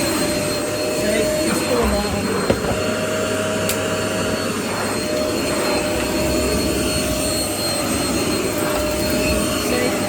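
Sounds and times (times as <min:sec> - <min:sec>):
vacuum cleaner motor whine: 0:00.0 - 0:10.0.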